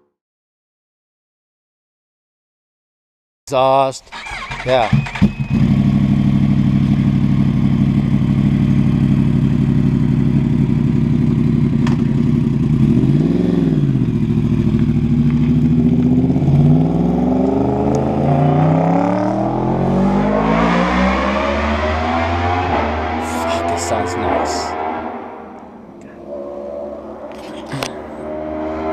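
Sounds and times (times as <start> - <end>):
motorcycle engine idling and revving: 4.1 - 28.9.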